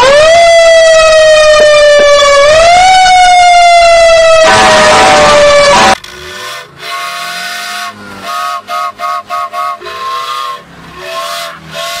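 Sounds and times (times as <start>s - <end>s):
fire truck siren horn blasts: 0.0s - 12.0s.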